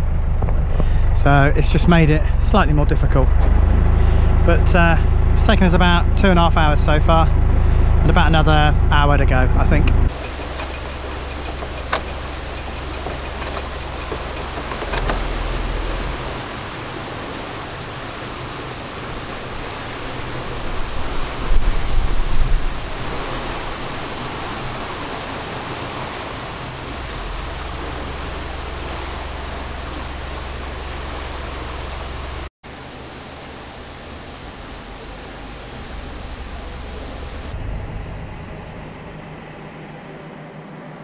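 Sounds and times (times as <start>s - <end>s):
low hum: 0.0s - 17.8s, 19.2s - 41.0s
water rushing: 0.9s - 40.4s.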